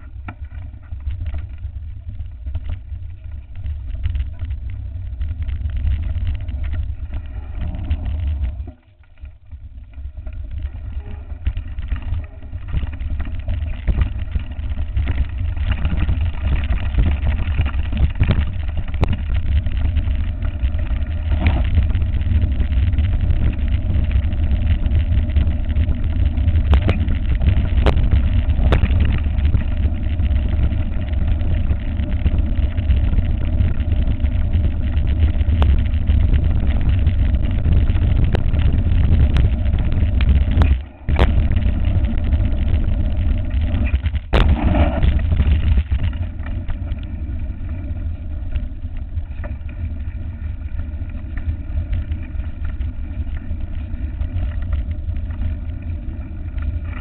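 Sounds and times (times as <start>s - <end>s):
bike rattling and knocking: 0.0s - 57.0s
wind and tyres rumbling: 0.0s - 57.0s.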